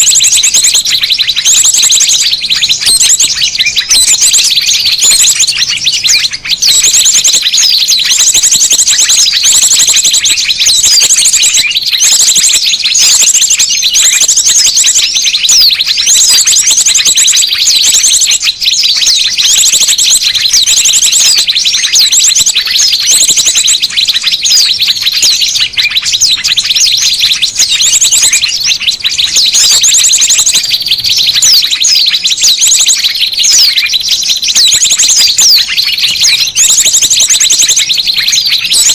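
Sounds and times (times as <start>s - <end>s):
small birds chattering and chirping: 0.0s - 38.9s.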